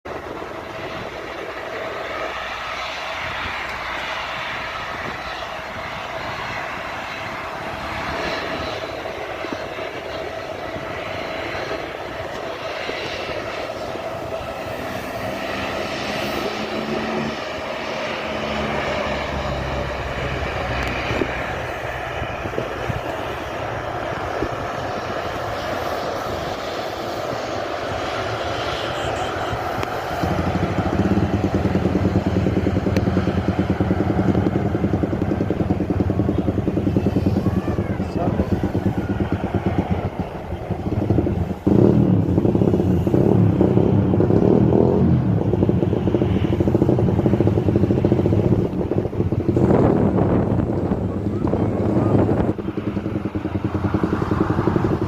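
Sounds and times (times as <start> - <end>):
constant mid-pitched engine tone: 0.0 - 55.0
airliner engine rushing hiss: 0.1 - 55.0.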